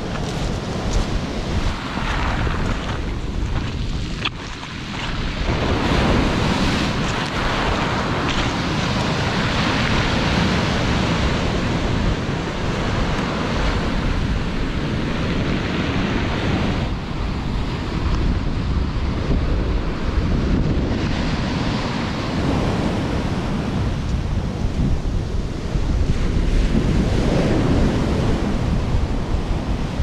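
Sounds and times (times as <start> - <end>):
surf breaking on shore: 0.0 - 30.0
wind buffeting microphone: 0.0 - 30.0.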